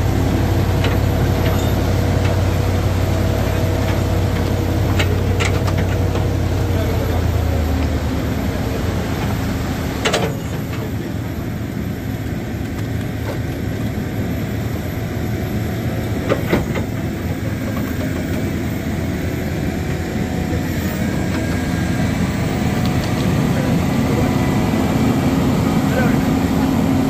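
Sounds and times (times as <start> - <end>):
heavy vehicle engine running: 0.0 - 27.0
traffic and road noise: 0.0 - 27.0.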